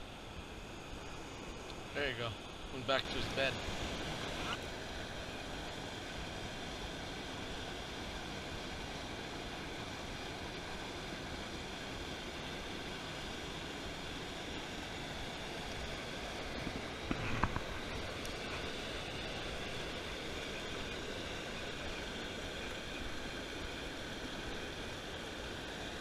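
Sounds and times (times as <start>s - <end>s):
river water rushing over weir: 0.0s - 26.0s.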